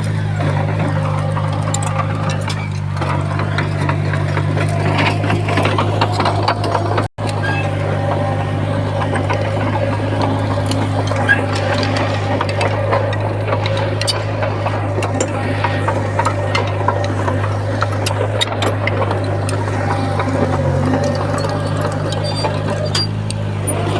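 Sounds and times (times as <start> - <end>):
bulldozer diesel engine running: 0.0 - 23.9
steel tracks clicking and rattling: 0.0 - 23.9.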